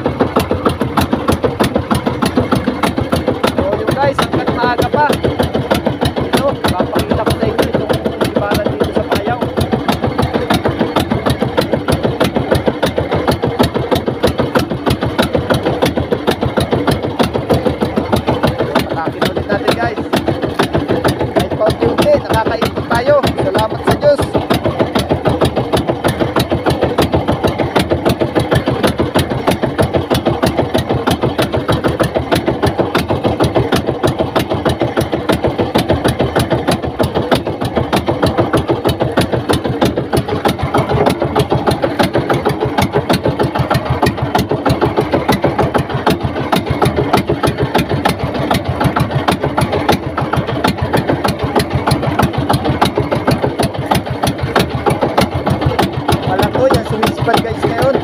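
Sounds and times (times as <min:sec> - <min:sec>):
boat engine throbbing: 0:00.0 - 0:58.0.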